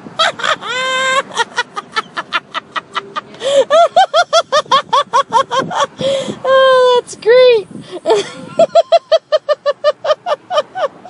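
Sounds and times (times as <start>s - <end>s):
woman laughing: 0.2s - 6.9s, 8.0s - 11.0s.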